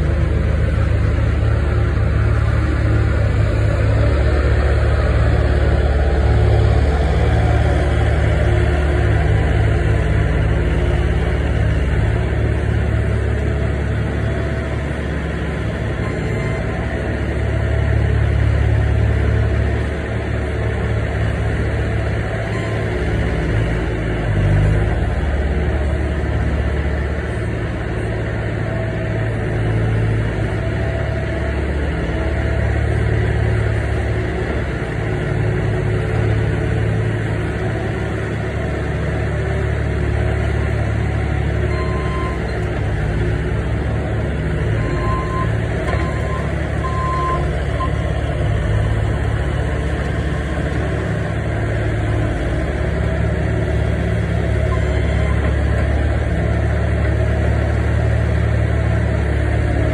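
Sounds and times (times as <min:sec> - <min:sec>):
loader engine running: 0:00.0 - 0:59.9.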